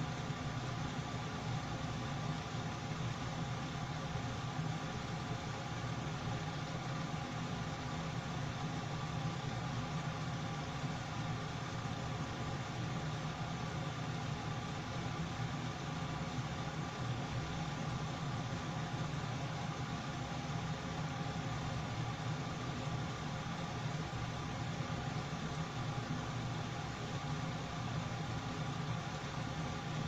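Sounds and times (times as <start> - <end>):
ventilation fan humming: 0.0 - 30.0.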